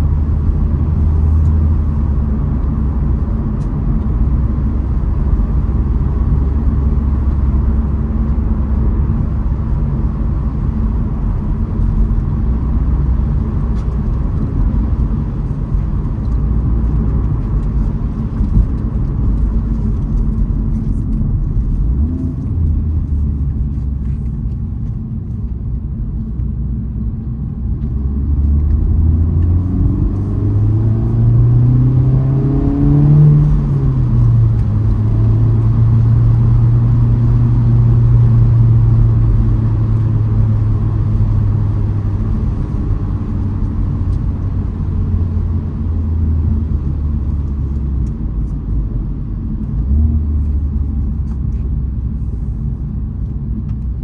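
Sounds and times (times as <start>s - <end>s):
car engine accelerating: 0.0s - 54.0s
road rumble: 0.0s - 54.0s.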